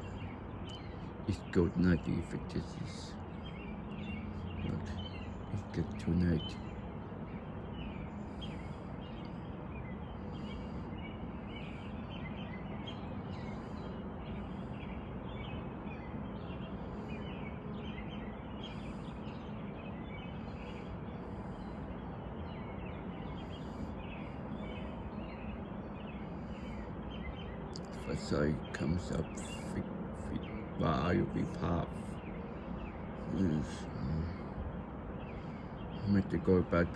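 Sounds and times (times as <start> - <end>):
birds chirping: 0.0 - 36.9
outdoor background hiss: 0.0 - 36.9.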